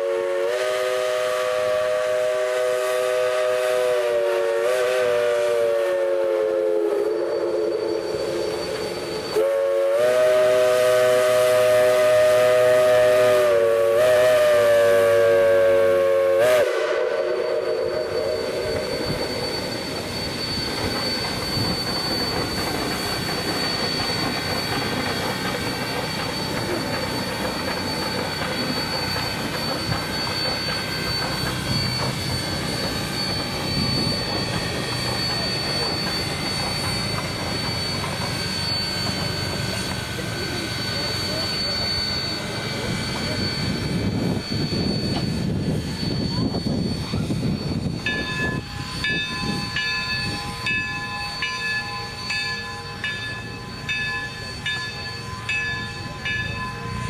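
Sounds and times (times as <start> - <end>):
locomotive hiss and running noise: 0.0 - 57.0
steam whistle blast: 0.0 - 57.0
thin high whine: 5.5 - 57.0.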